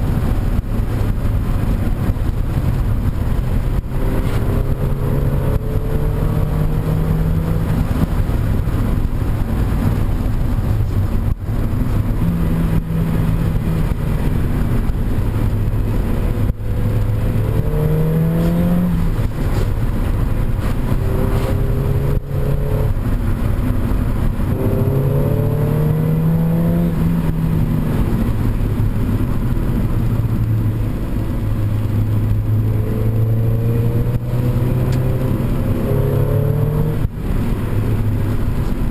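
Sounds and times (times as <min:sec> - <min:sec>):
car engine accelerating: 0:00.0 - 0:38.9
road rumble: 0:00.0 - 0:38.9.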